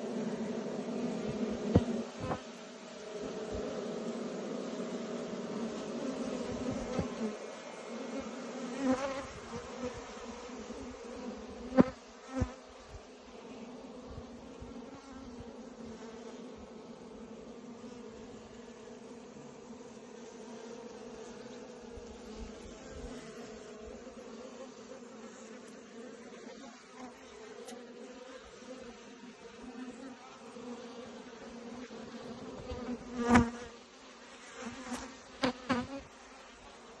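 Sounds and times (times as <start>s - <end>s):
bee buzzing past close: 0.0s - 37.0s
honeybees buzzing: 0.0s - 37.0s.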